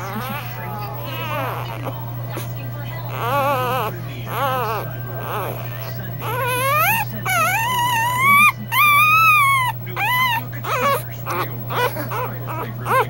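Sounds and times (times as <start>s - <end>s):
puppy squeaks: 0.0s - 13.0s
puppy whining: 0.0s - 13.0s.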